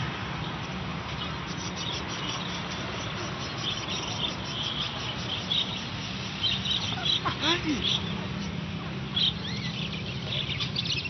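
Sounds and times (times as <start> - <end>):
cage birds chirping and twittering: 0.3 - 11.0.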